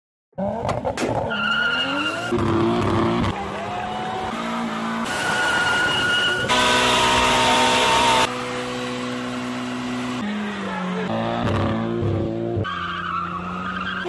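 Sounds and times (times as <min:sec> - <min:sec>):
car engines revving: 0:00.4 - 0:14.0.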